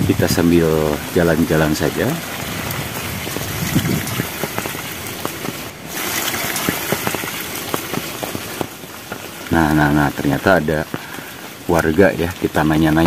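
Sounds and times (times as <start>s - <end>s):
heavy rain: 0.0s - 13.0s
raindrops tapping on umbrella: 0.0s - 13.0s.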